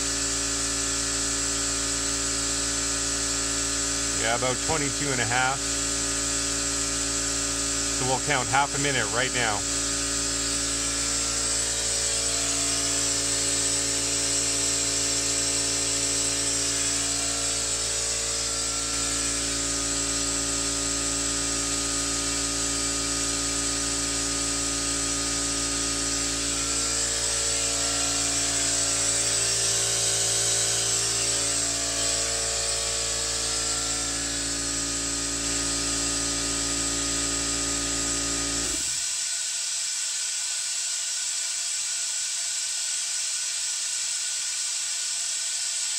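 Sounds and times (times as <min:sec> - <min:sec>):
air compressor running: 0:00.0 - 0:45.9.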